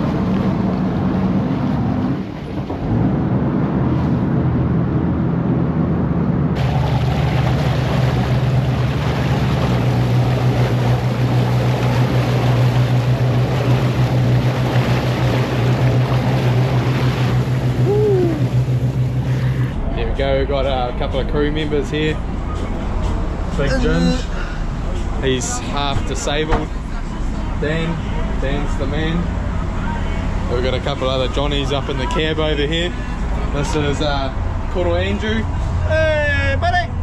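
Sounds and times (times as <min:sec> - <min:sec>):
boat engine droning: 0:00.0 - 0:37.0
rush of wind and water: 0:00.0 - 0:37.0.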